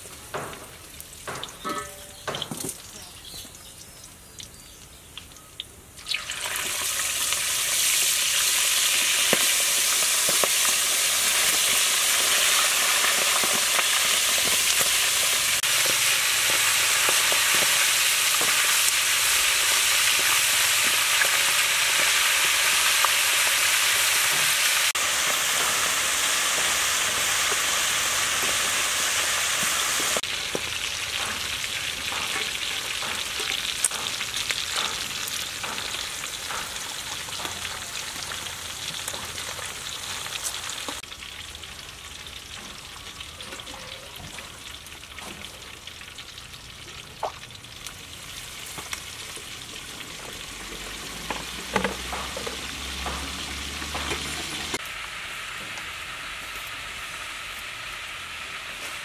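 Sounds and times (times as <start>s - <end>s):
meat deep-frying in hot oil: 0.0s - 59.0s.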